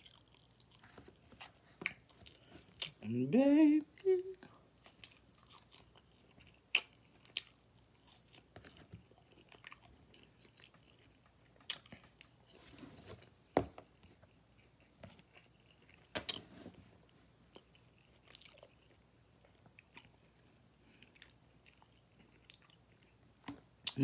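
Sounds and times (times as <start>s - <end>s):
man chewing with wet smacks: 0.0s - 3.0s, 4.5s - 12.6s, 13.8s - 16.4s, 17.4s - 24.0s.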